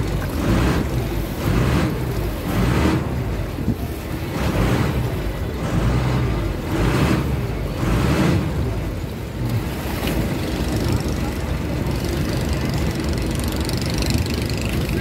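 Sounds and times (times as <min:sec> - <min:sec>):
boat engine running: 0:00.0 - 0:15.0
water swells against hull: 0:00.0 - 0:15.0.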